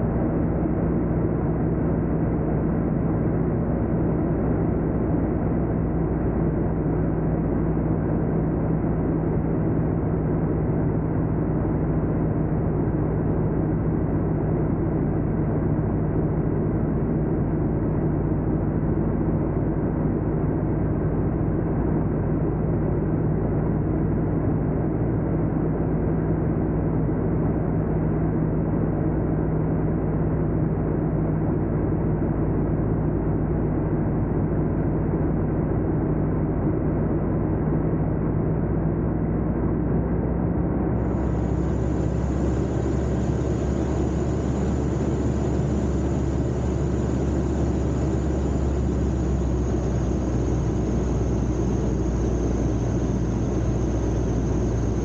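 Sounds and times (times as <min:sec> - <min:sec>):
radial aircraft engine and propeller drone: 0:00.0 - 0:55.0.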